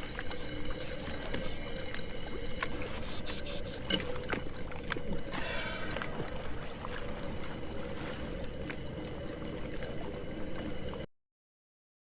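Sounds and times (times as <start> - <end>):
droning hum: 0.0 - 11.1
low rumble of water: 0.0 - 11.1.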